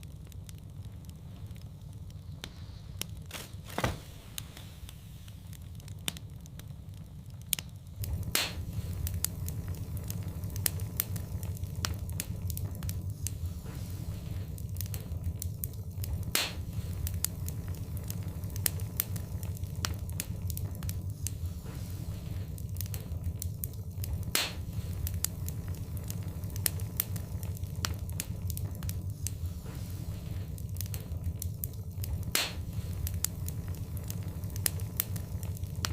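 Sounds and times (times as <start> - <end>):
fire crackling and popping: 0.0 - 35.9
fire rumbling: 0.0 - 35.9.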